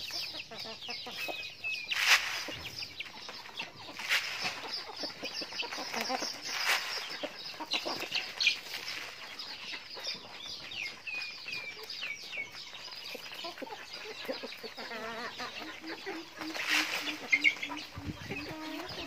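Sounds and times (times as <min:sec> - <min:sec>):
chicks peeping: 0:00.0 - 0:19.0
hens clucking: 0:00.0 - 0:19.0.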